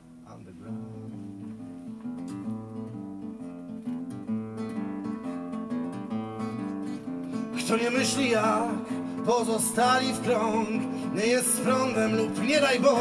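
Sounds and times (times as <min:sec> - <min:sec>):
solo acoustic guitar: 0:00.0 - 0:13.0.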